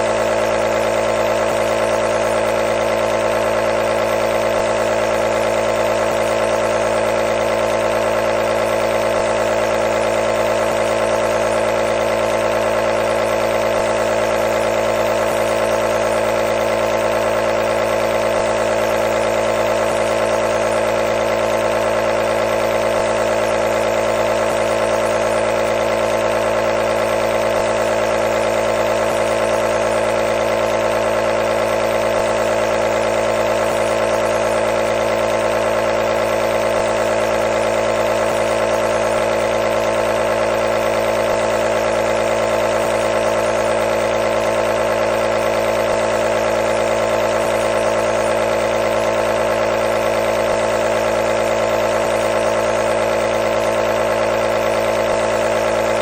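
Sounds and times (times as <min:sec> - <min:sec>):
compressor humming and buzzing: 0:00.0 - 0:56.0.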